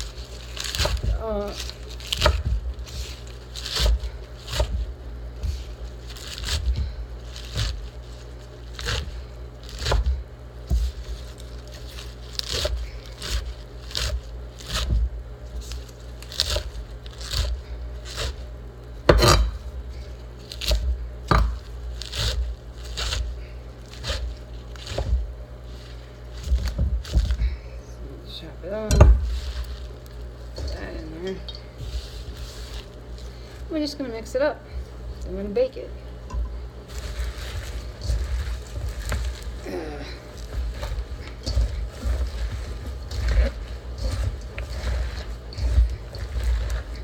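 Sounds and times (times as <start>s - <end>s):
meat mixture mixed in bowl: 0.0s - 47.0s.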